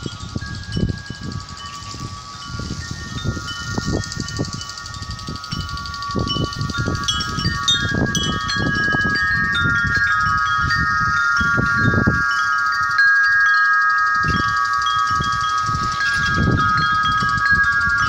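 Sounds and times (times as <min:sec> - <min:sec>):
wind chimes ringing: 0:00.0 - 0:18.0
wind rumble on microphone: 0:00.0 - 0:18.0.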